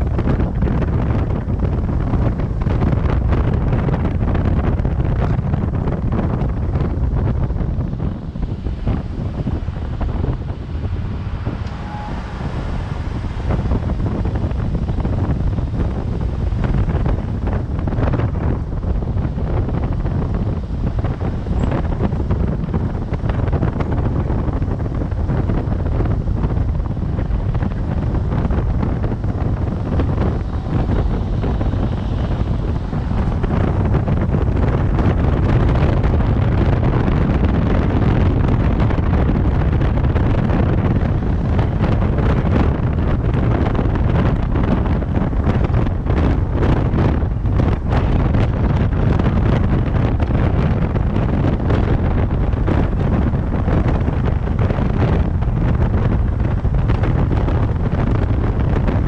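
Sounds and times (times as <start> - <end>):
street traffic: 0.0 - 59.0
wind buffeting microphone: 0.0 - 59.0.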